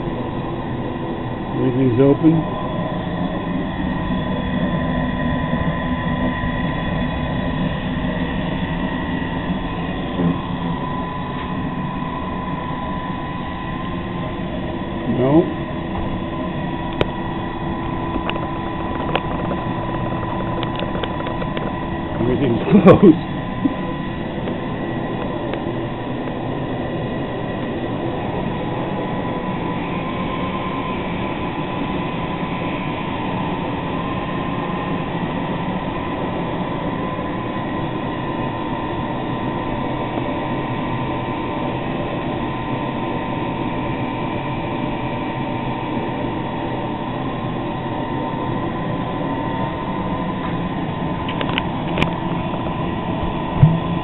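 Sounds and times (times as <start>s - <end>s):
electric pump humming: 0.0s - 54.0s.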